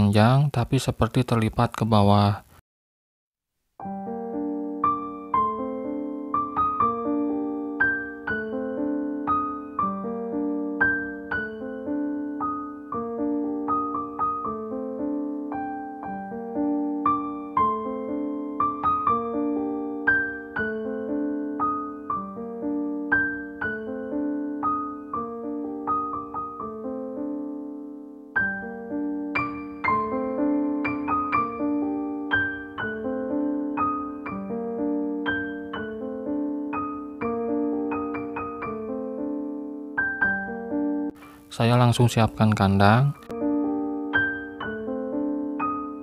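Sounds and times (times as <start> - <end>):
slow piano melody: 3.8 - 46.0.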